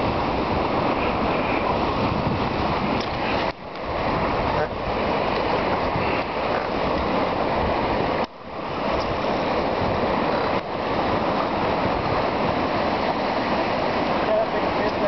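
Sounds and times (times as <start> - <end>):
rushing water: 0.0 - 15.0
wind: 0.0 - 15.0.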